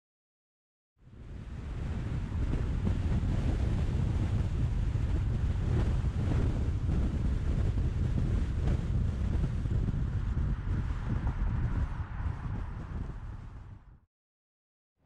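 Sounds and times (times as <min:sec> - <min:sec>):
wind and road noise in car: 0:01.0 - 0:14.0.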